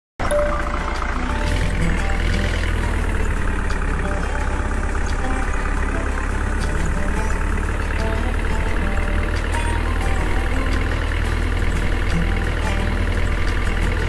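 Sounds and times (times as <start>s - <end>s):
tractor diesel engine running: 0.2s - 14.0s.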